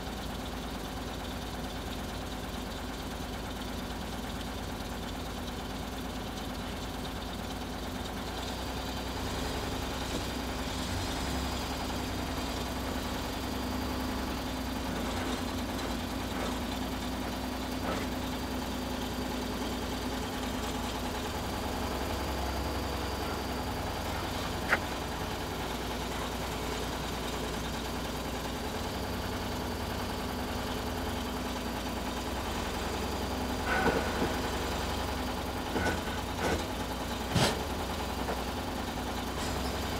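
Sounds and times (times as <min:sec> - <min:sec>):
engine running at low revs: 0:06.0 - 0:39.9.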